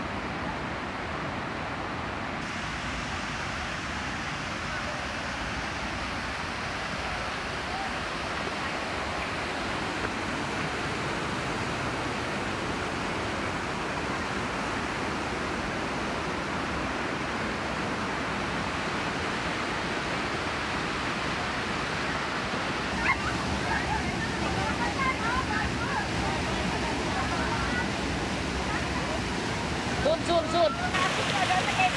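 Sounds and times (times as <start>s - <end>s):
river rushing over boulders: 0.0s - 31.9s.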